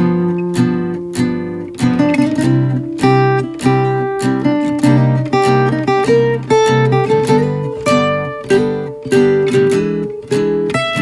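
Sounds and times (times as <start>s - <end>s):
guitar plucking chords: 0.0s - 11.0s.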